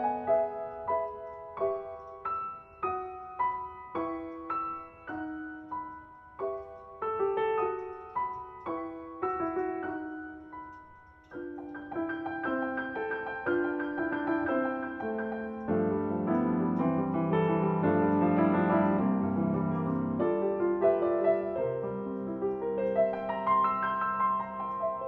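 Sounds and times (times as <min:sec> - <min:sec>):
slow solo piano: 0:00.0 - 0:25.0.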